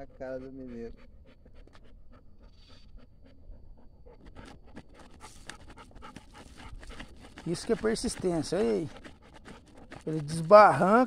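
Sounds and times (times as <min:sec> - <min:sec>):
dog panting: 0:00.0 - 0:11.0
paws scraping dirt: 0:00.0 - 0:11.0.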